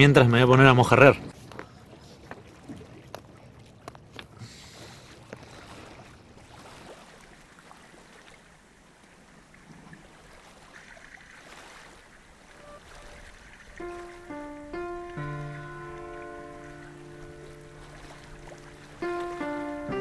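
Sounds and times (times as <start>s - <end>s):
water noise: 0.0s - 20.0s
wind: 0.0s - 20.0s.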